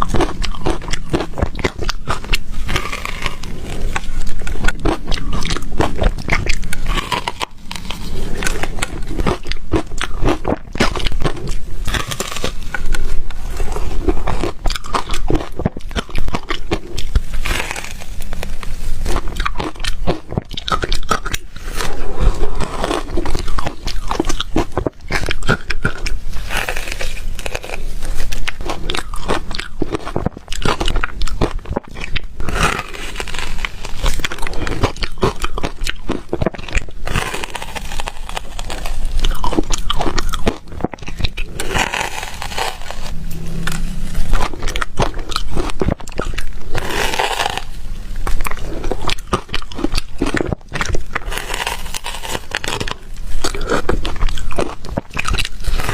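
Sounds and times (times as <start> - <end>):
person crunching ice: 0.0 - 43.2, 44.3 - 55.9.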